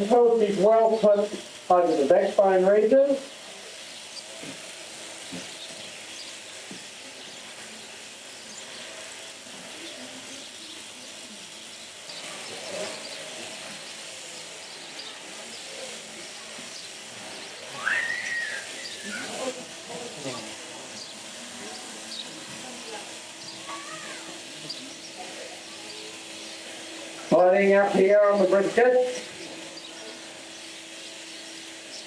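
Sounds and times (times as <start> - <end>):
sheep shears cutting fleece: 0.0 - 32.0.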